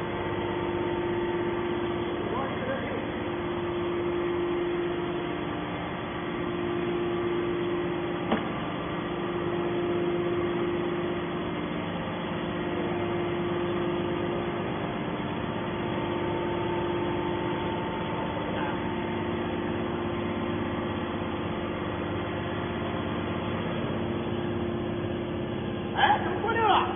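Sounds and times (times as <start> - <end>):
hydraulic power unit humming: 0.0 - 26.9.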